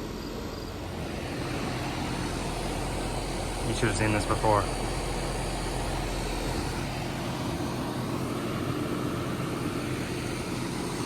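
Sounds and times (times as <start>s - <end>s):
low constant hum: 0.0s - 11.0s.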